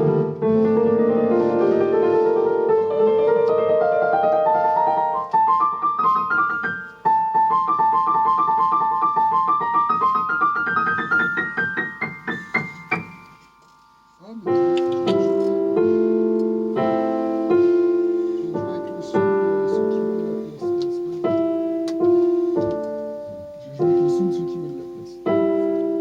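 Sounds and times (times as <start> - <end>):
piano chords and rising run: 0.0 - 26.0.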